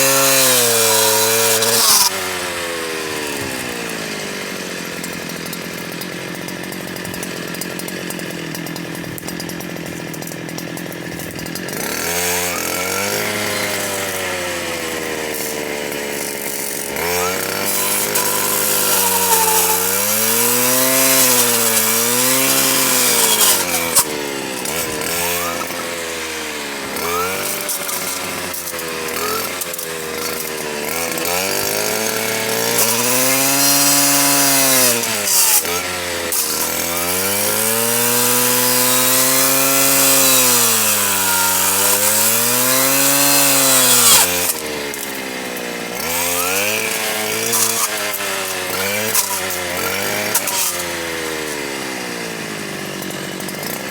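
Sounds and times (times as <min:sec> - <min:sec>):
power saw cutting: 0:00.0 - 0:53.9.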